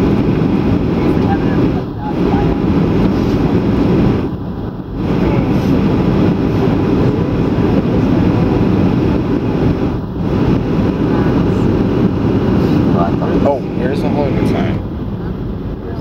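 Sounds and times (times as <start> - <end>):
aircraft engines roaring: 0.0 - 16.0
airflow past fuselage: 0.0 - 16.0.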